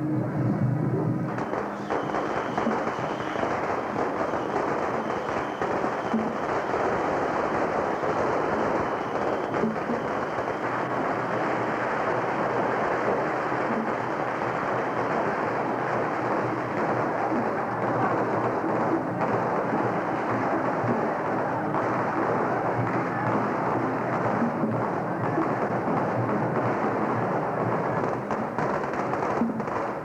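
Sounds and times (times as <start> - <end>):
firecrackers crackling: 1.0 - 30.0.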